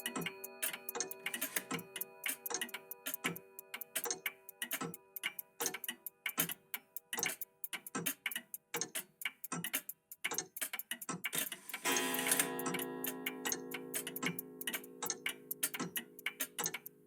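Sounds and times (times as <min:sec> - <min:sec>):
mechanical clocks ticking: 0:00.0 - 0:17.0.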